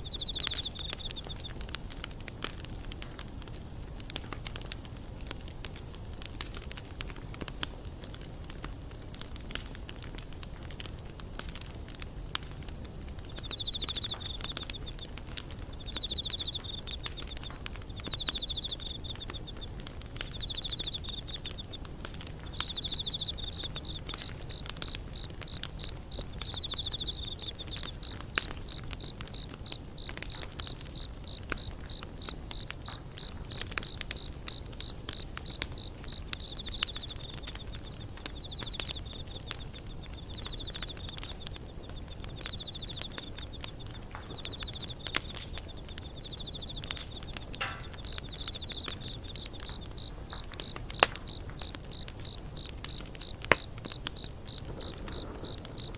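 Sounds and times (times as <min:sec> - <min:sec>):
campfire crackling: 0:00.0 - 0:55.9
crickets trilling: 0:00.0 - 0:55.9.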